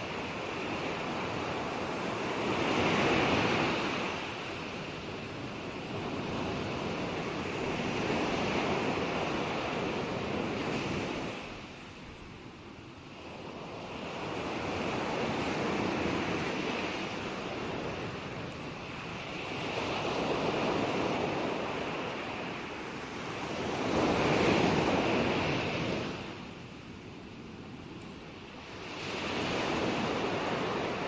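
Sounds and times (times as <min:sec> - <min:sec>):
ocean waves washing onto shore: 0:00.0 - 0:31.0.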